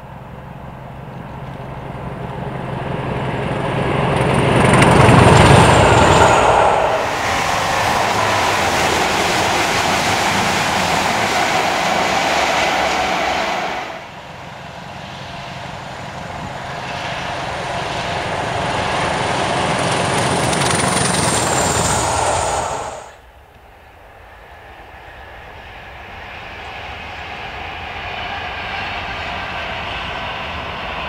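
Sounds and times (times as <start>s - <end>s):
diesel train passing: 0.0s - 31.0s
train wheels on rails: 0.0s - 31.0s.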